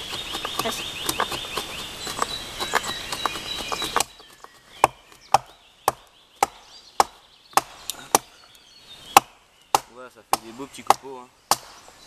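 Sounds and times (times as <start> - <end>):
hatchet chopping wood: 0.0 - 8.4, 9.1 - 11.9.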